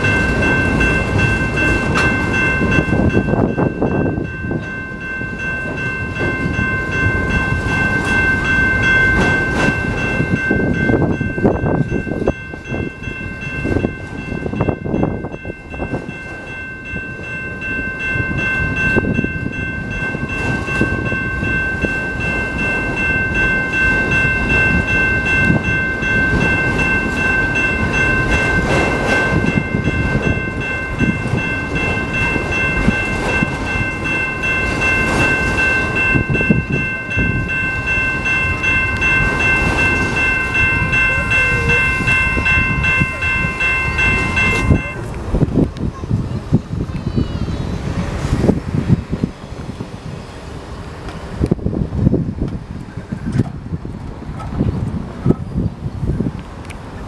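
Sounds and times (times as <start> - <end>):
train cars knocking and clattering: 0.0 - 57.0
train wheels rumbling on rail: 0.0 - 57.0.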